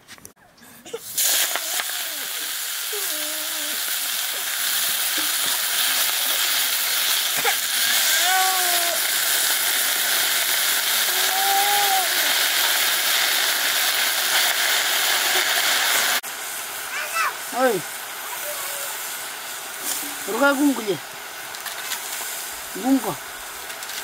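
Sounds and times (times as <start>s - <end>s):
greens sizzling in a pan: 0.9s - 24.0s.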